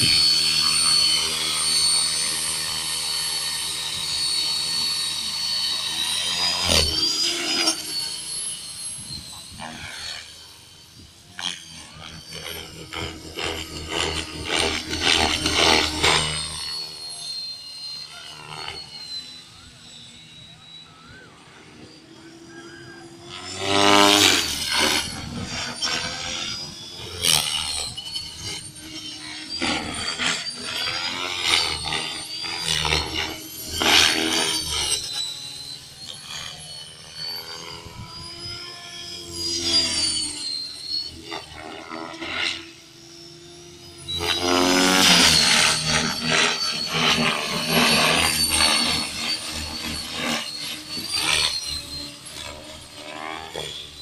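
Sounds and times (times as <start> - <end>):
rc helicopter motor whine: 0.0 - 54.0.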